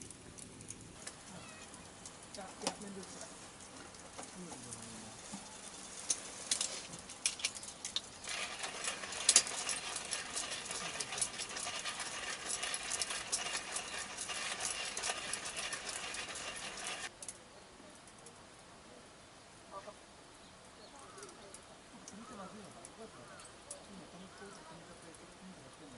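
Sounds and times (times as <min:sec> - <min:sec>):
wood fire crackling: 0:00.0 - 0:18.6, 0:20.6 - 0:25.8
steady crackling hiss: 0:00.0 - 0:25.9.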